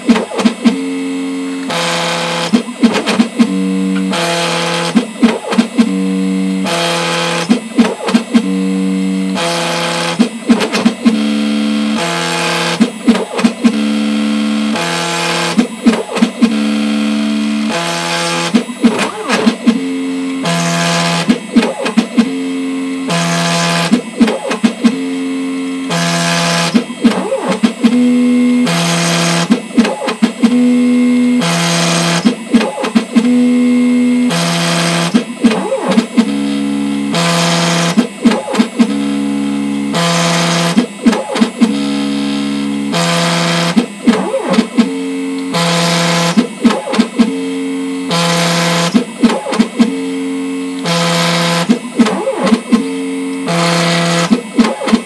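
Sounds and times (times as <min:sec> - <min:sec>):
cnc router motors whining: 0:00.0 - 0:55.0
cutting noise bursts: 0:01.6 - 0:06.0, 0:06.6 - 0:08.6, 0:09.3 - 0:22.3, 0:23.0 - 0:25.0, 0:25.8 - 0:30.8, 0:31.4 - 0:33.4, 0:34.1 - 0:47.4, 0:48.1 - 0:50.0, 0:50.8 - 0:55.0.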